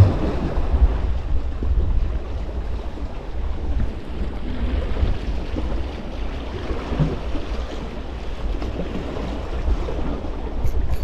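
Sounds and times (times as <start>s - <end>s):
small waves at shoreline: 0.0s - 11.0s
wind buffeting microphone: 0.0s - 11.0s.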